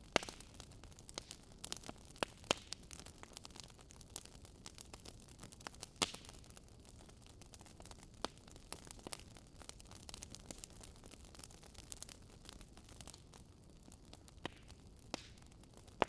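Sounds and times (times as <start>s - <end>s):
campfire crackling: 0.0s - 16.0s
campfire popping: 0.0s - 16.0s.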